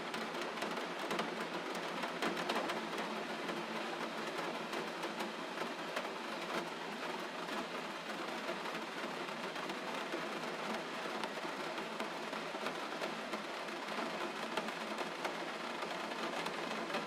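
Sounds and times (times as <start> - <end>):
gentle rain falling: 0.0 - 17.0.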